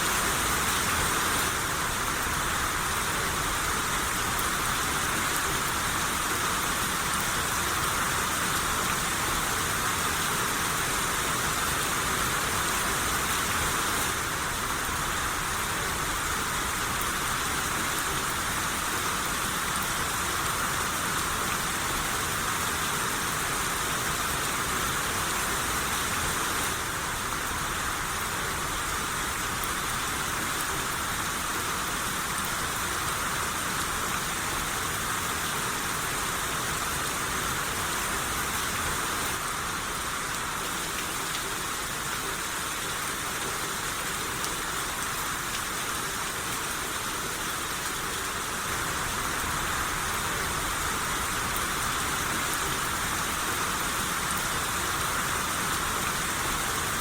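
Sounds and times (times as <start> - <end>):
rain shower hiss: 0.0 - 57.0.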